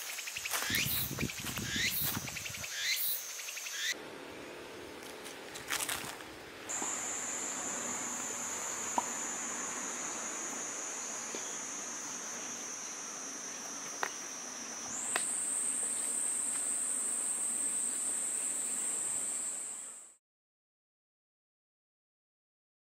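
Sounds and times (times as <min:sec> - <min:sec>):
crickets trilling: 0:00.0 - 0:04.0, 0:04.7 - 0:20.2.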